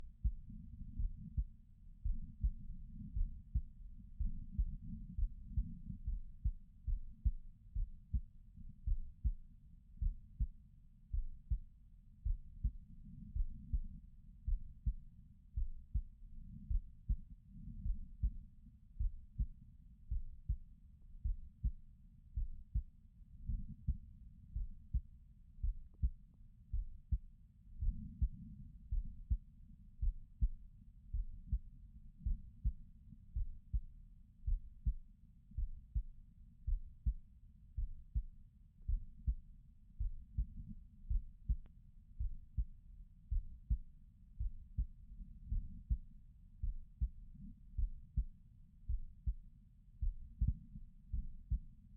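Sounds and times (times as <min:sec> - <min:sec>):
heartbeat thumps: 0:00.0 - 0:18.4, 0:19.0 - 0:20.6, 0:21.2 - 0:21.8, 0:22.4 - 0:22.9, 0:24.6 - 0:25.0, 0:25.6 - 0:27.2, 0:27.8 - 0:29.4, 0:30.0 - 0:32.8, 0:33.4 - 0:35.0, 0:35.6 - 0:36.1, 0:36.7 - 0:37.2, 0:37.8 - 0:38.3, 0:38.9 - 0:39.4, 0:40.0 - 0:48.3, 0:48.9 - 0:49.4, 0:50.0 - 0:51.6.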